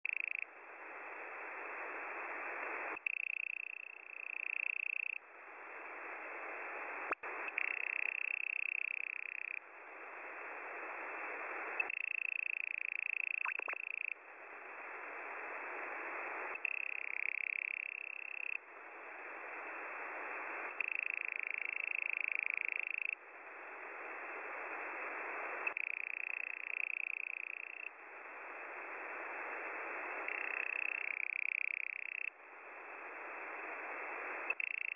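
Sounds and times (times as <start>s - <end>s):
radio hiss: 0.1s - 34.9s.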